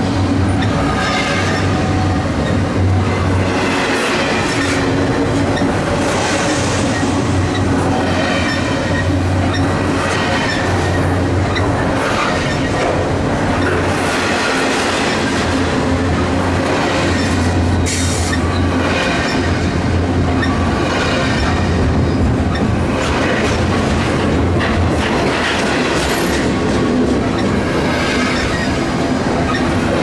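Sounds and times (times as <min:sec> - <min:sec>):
freight train cars rumbling: 0:00.0 - 0:30.0
wheels clacking over rail joints: 0:00.0 - 0:30.0.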